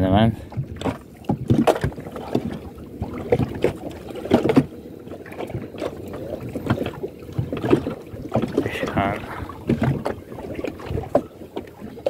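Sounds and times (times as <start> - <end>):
water slapping against boat: 0.0 - 12.0.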